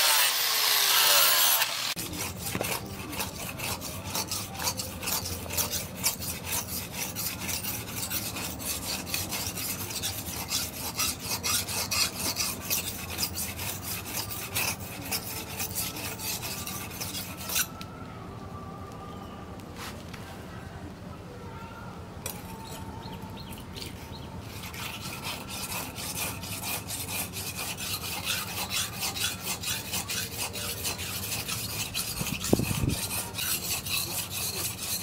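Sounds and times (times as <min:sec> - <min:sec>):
angle grinder grinding steel: 0:00.0 - 0:17.8, 0:23.8 - 0:35.0
blade scraping on sharpening stone: 0:00.0 - 0:17.8, 0:22.3 - 0:22.8, 0:23.8 - 0:35.0.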